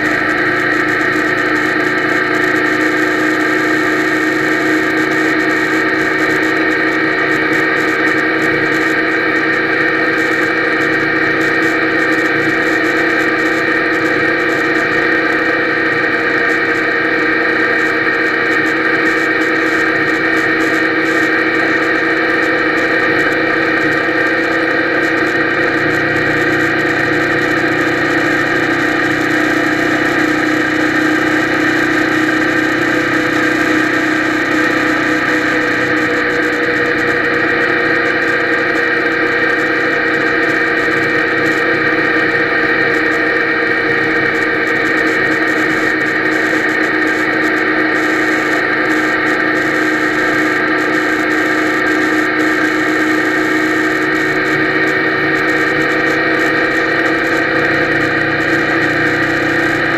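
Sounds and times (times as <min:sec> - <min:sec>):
muffled motorcycle engine: 0:00.0 - 0:59.9.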